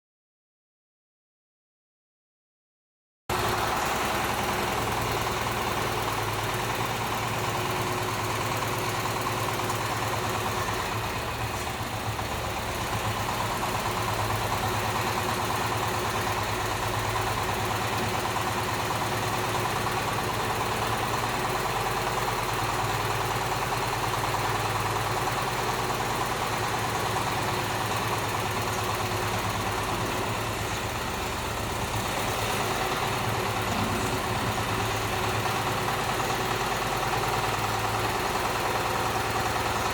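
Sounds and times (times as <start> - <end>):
small engine running steadily: 3.3 - 39.9.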